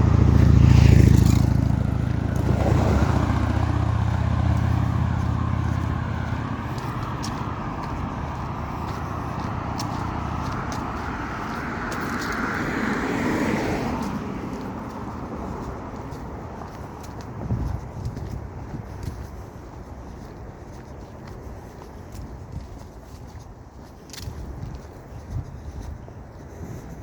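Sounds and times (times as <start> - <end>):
vehicle passing: 0.0 - 22.3
vehicle low rumble: 0.0 - 27.0.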